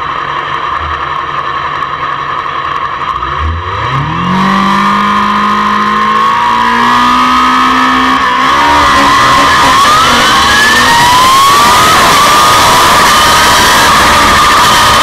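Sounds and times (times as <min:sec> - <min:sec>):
high whine: 0:00.0 - 0:15.0
motorcycle engine revving: 0:00.0 - 0:15.0.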